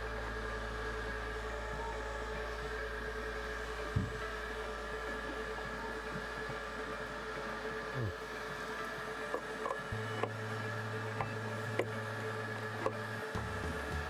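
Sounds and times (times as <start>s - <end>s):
vacuum humming: 0.0s - 14.0s.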